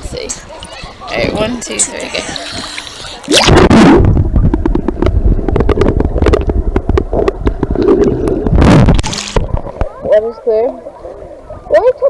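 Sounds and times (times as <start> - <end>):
water rushing: 0.0 - 12.0
underwater rumble and bubbling: 1.1 - 12.0.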